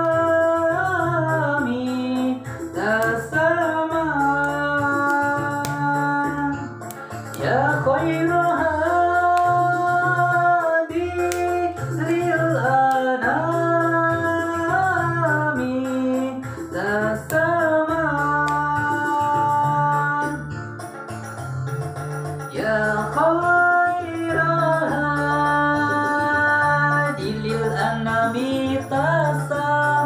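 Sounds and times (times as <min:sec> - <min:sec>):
person singing long sliding notes: 0:00.0 - 0:20.6, 0:22.5 - 0:30.0
instrumental backing with bass line: 0:00.0 - 0:30.0.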